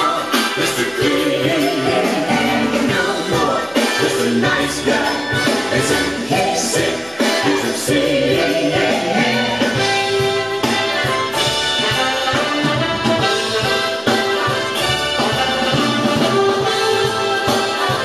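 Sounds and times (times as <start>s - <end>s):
instrumental rock music: 0.0s - 18.0s.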